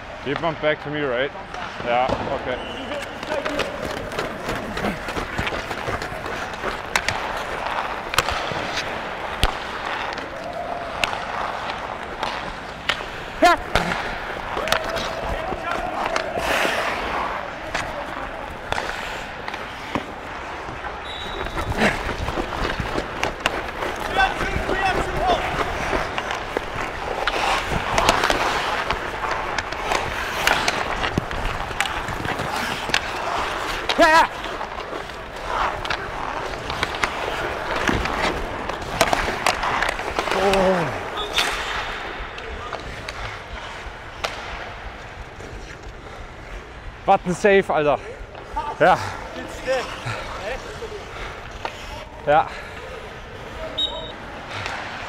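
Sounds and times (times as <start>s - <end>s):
hockey sticks hitting puck: 0.1s - 55.0s
skate blades scraping ice: 1.4s - 55.0s.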